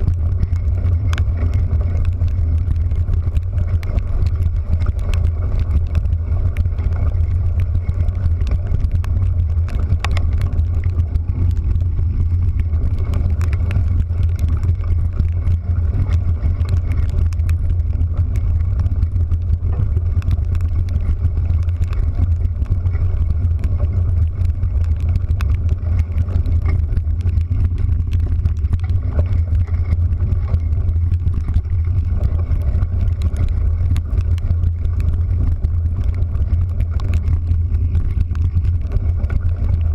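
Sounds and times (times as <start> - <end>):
vehicle rumble from on board: 0.0 - 39.9.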